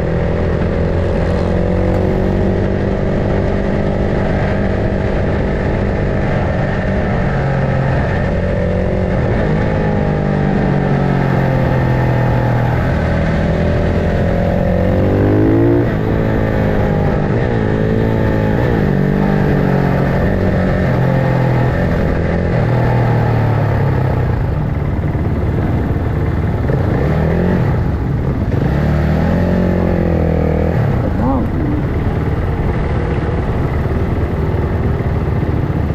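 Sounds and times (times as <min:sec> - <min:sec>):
racing motorcycle engines revving: 0:00.0 - 0:35.9.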